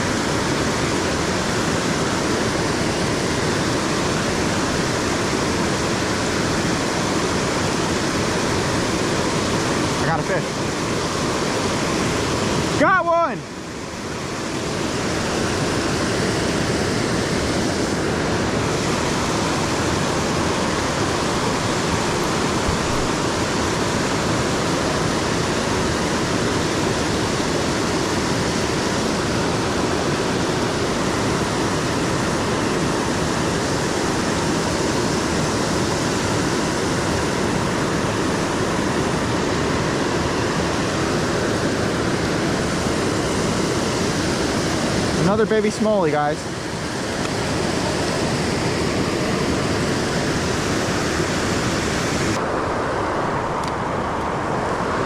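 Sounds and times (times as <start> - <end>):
fast-flowing creek water: 0.0 - 55.0.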